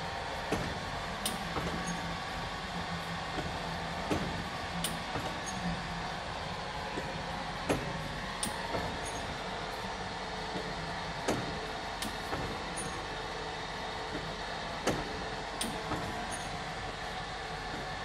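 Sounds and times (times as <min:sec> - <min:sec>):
machine mechanical hum: 0:00.0 - 0:18.0.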